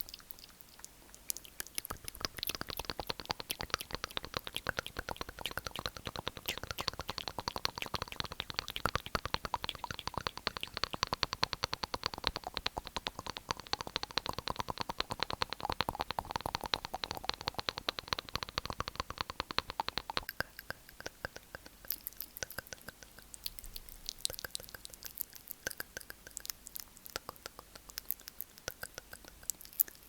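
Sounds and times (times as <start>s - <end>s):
tongue and lip clicks: 0.0s - 30.0s.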